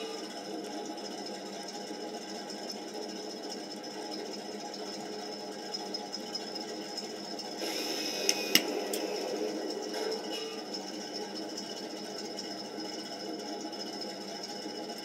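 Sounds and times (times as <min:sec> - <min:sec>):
engine idling from small speaker: 0:00.0 - 0:15.0.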